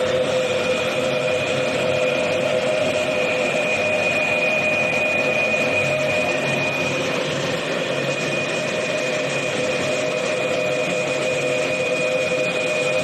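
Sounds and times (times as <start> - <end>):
high machine whine: 0.0 - 13.0.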